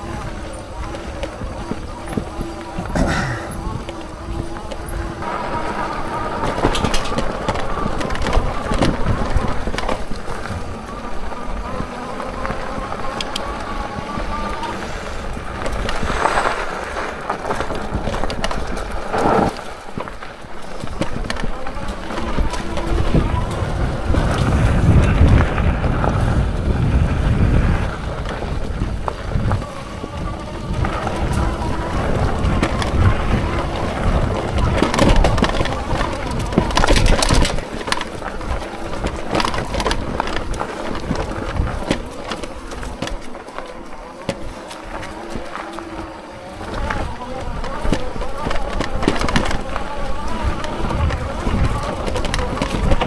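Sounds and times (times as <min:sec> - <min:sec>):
bike rattling and knocking: 0:00.0 - 0:53.0
tyres crunching over stones: 0:00.0 - 0:53.0
wind rumble on microphone: 0:00.0 - 0:53.0.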